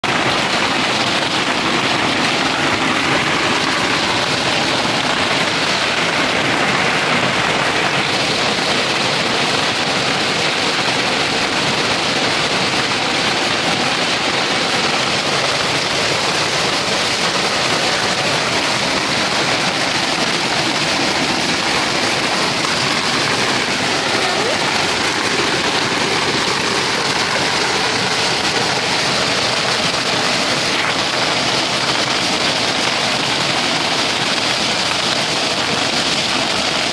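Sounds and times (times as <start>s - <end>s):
heavy hail pelting down: 0.0s - 36.9s.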